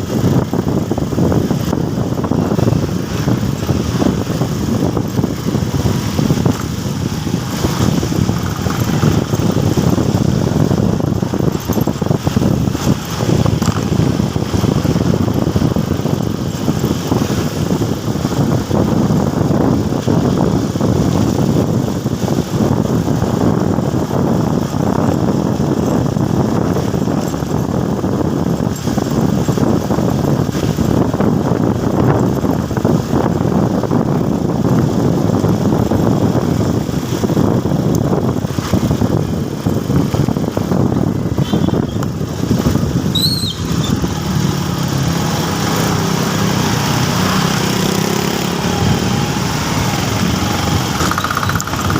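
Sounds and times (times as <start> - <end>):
motorcycle engine: 0.0 - 51.9
road rumble: 0.0 - 51.9
wind buffeting microphone: 0.0 - 51.9.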